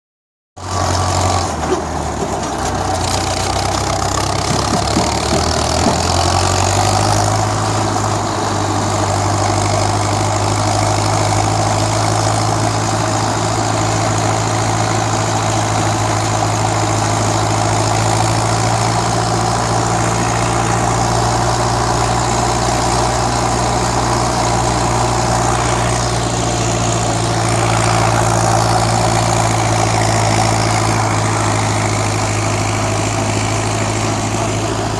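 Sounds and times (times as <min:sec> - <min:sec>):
tractor diesel engine idling: 0:00.6 - 0:34.9.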